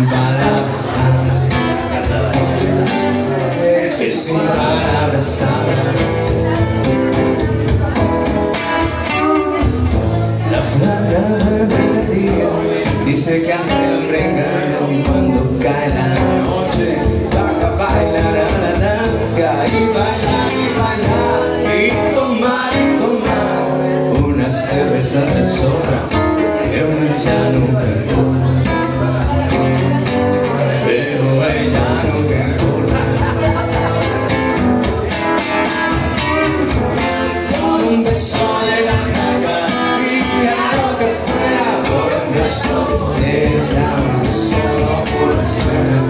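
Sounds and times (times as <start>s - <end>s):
man singing: 0.0s - 46.0s
strummed acoustic guitar: 0.0s - 46.0s.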